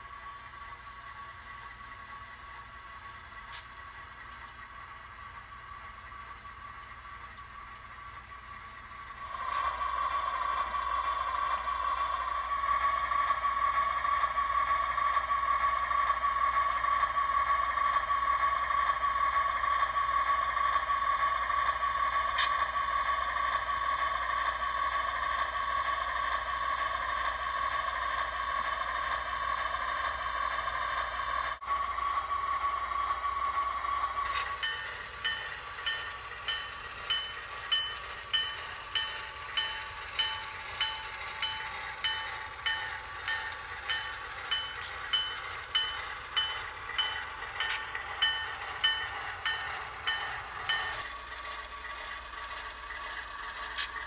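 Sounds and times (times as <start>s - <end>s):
model train humming: 0.0s - 54.0s.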